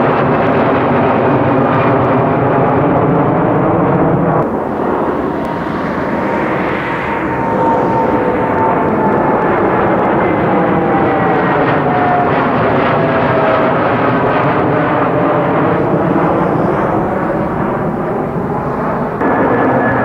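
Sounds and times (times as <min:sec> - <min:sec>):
jet airplane climbing overhead: 0:00.0 - 0:20.0.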